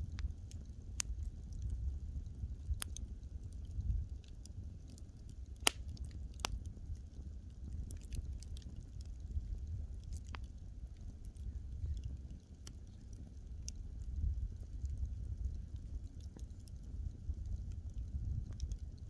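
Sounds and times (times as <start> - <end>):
burning wood crackling: 0.0 - 19.0
low steady rumble: 0.0 - 19.0.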